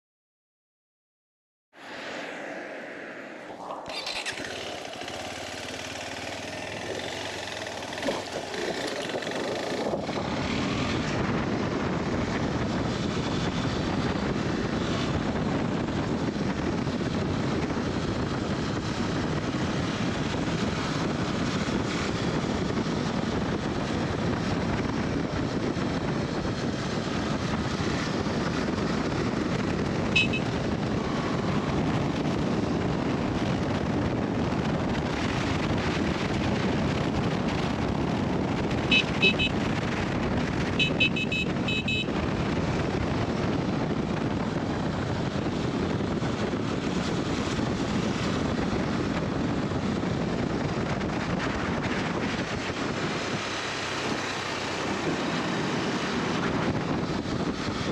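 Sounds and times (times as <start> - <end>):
motorcycle engine running: 3.9 - 57.9.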